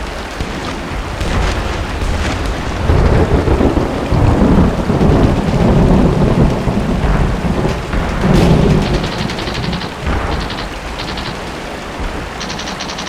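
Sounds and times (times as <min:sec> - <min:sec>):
heavy rain: 0:00.0 - 0:13.0
thunder rolling: 0:00.0 - 0:13.0.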